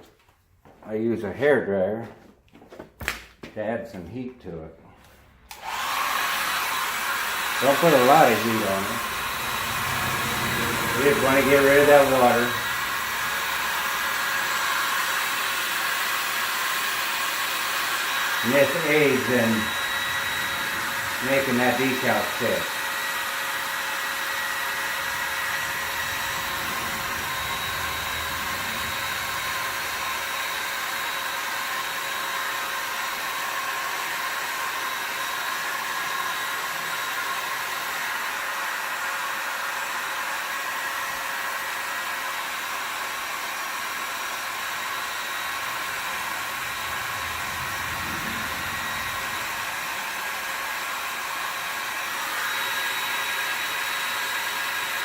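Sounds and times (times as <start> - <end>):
hair dryer blowing: 5.0 - 55.0.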